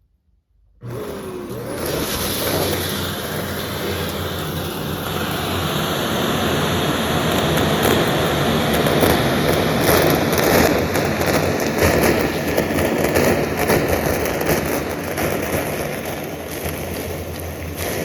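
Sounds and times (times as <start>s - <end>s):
debris crackling in vacuum: 0.8s - 18.0s
vacuum cleaner running: 0.8s - 18.0s.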